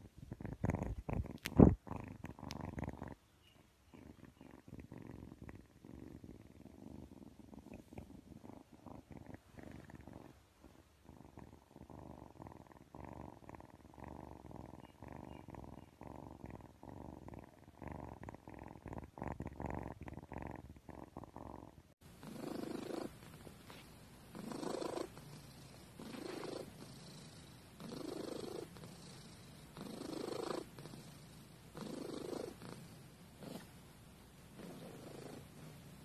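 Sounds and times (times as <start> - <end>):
kitten purring: 0.0 - 36.0.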